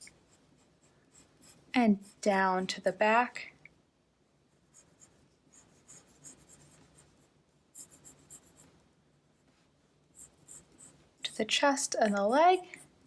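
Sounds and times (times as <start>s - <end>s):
pencil scratching on paper: 0.0s - 2.9s, 4.5s - 8.8s, 9.4s - 13.0s.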